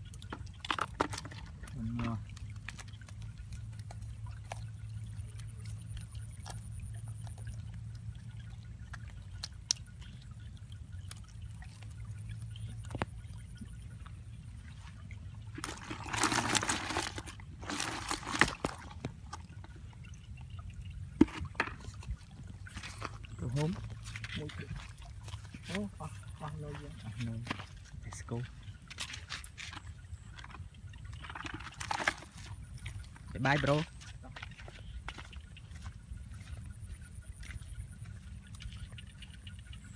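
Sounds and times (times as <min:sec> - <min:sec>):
water pouring and splashing: 0:00.0 - 0:39.9.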